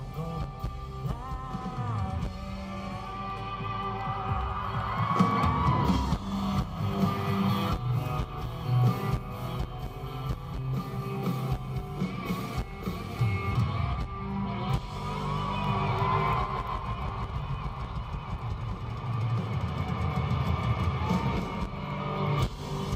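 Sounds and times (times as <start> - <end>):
bass guitar: 0.0 - 22.9
electric guitars bending lead notes: 0.0 - 22.9
steady drum beat: 0.0 - 22.9.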